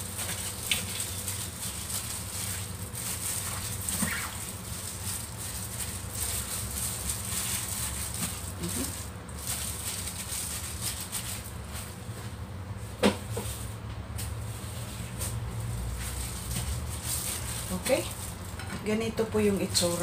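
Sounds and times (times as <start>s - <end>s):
handling chicken in a bowl: 0.0s - 18.6s
steady low hum: 0.0s - 20.0s.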